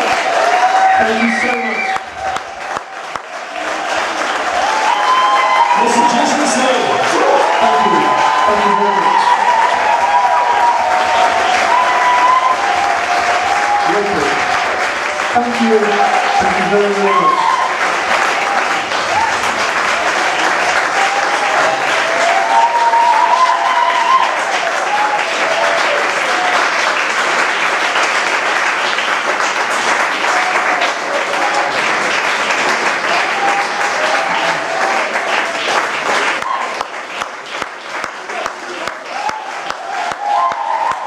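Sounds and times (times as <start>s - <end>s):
audience applauding: 0.0s - 41.0s.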